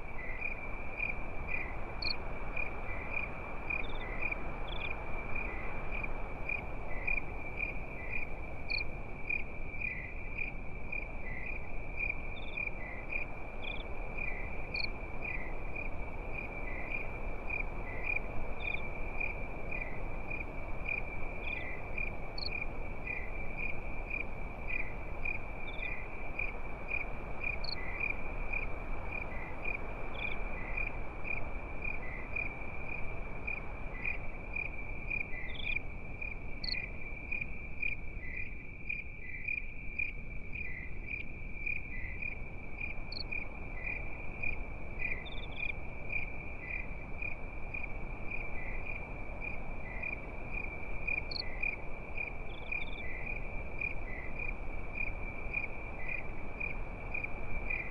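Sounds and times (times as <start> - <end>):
campfire crackling and hissing: 0.0 - 57.9
crickets chirping: 0.0 - 57.9
higher single cricket chirp: 0.0 - 57.9.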